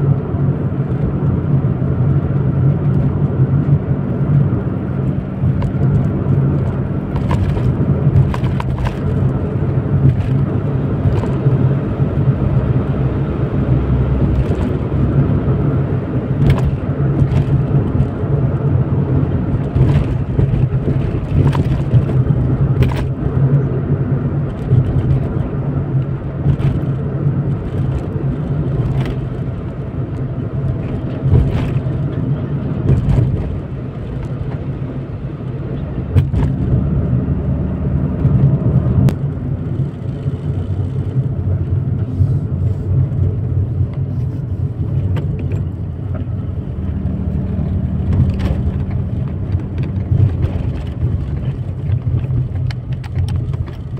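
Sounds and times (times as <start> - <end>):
car engine rumble: 0.0 - 53.9
road noise: 0.0 - 53.9.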